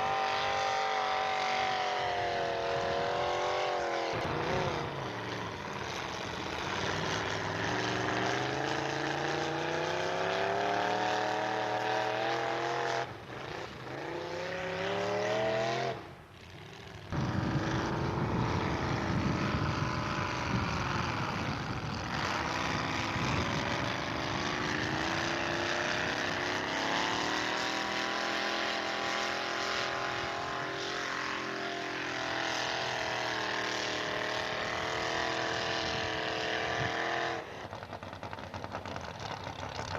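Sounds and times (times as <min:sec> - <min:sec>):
truck engine revving hard: 0:00.0 - 0:37.7.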